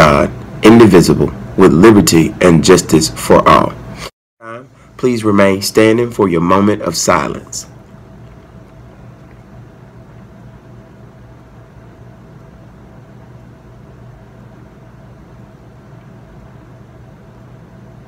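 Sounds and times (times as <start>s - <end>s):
air conditioning hum: 0.0s - 18.0s.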